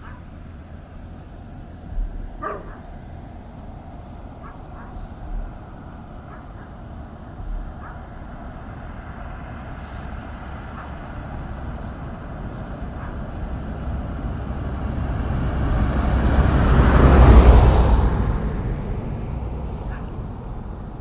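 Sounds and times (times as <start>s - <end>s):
road vehicle passing: 0.0s - 21.0s.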